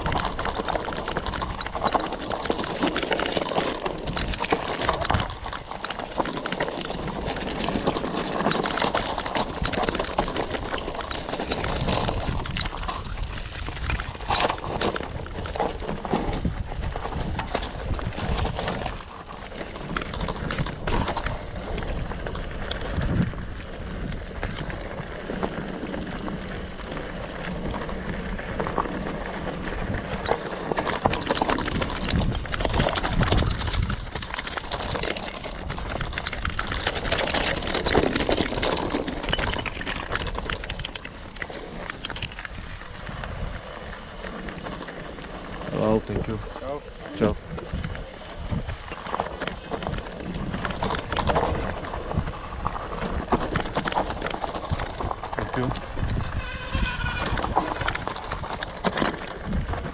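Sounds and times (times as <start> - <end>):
bicycle chain and frame clatter: 0.0 - 59.9
tyres crunching over stones: 0.0 - 59.9.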